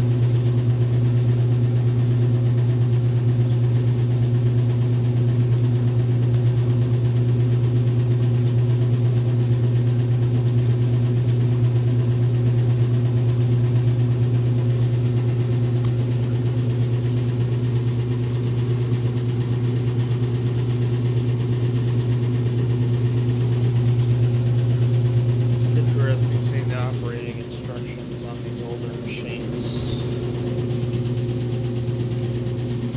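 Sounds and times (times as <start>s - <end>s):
washing machine motor hum: 0.0s - 32.9s.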